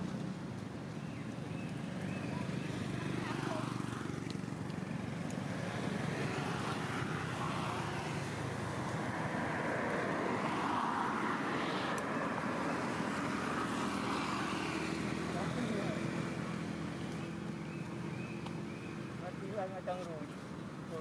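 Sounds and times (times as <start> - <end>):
motor vehicle passing: 0.0 - 21.0.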